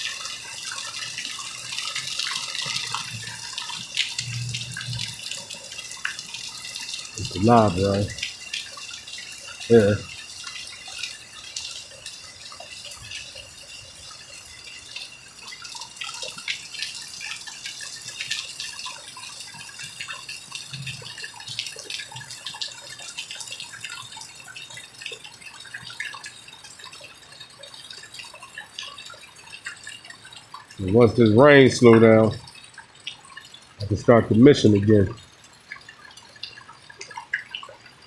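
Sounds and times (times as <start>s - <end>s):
drops dripping and splashing: 0.0s - 38.0s
rain falling: 0.0s - 38.0s.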